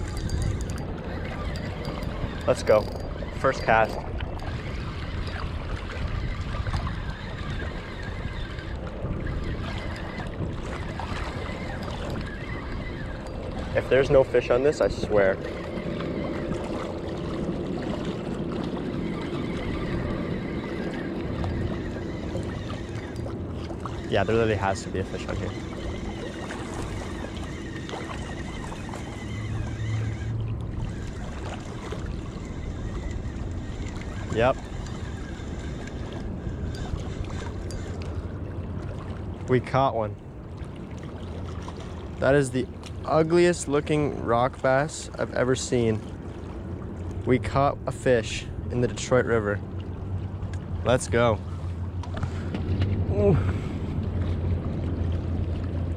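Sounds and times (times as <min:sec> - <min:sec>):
low hum: 0:00.0 - 0:55.9
river water: 0:00.0 - 0:55.9
wind rumbling on microphone: 0:00.0 - 0:55.9.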